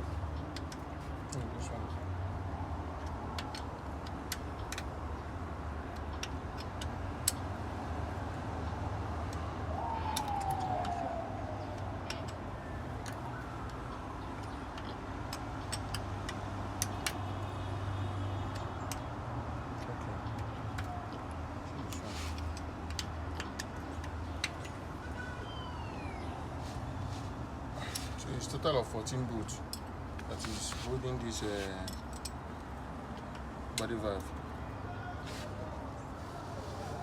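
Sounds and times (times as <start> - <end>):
hand tools clicking and tapping: 0.2 - 2.0, 2.7 - 17.8, 18.4 - 25.2, 27.7 - 34.4.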